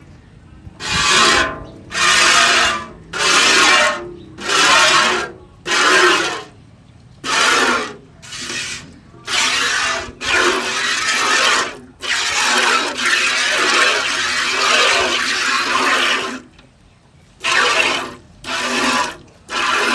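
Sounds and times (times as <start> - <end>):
milk squirting into a bucket: 0.9 - 6.5, 7.2 - 16.5, 17.4 - 19.9.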